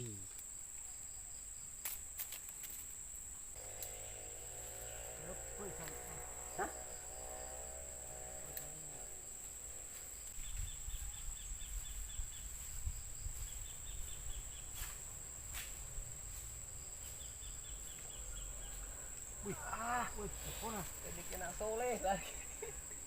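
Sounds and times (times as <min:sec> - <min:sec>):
insects trilling: 0:00.0 - 0:23.0
rapid insect chirps: 0:00.0 - 0:23.0.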